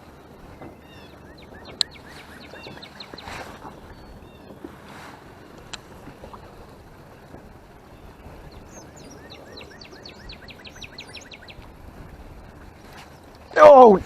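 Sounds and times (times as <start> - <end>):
songbird chirping: 0.0 - 11.8.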